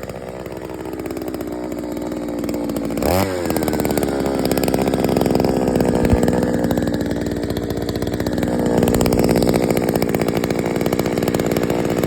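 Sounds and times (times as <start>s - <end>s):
two-stroke auger engine running: 0.0s - 12.0s.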